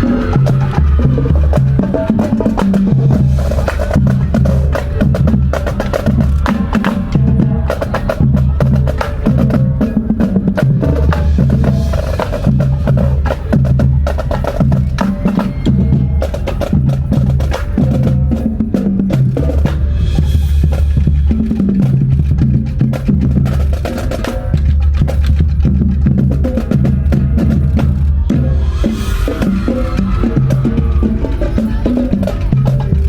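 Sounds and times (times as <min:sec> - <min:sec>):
drums and percussion strikes: 0:00.0 - 0:33.0
marching band playing: 0:00.0 - 0:33.0.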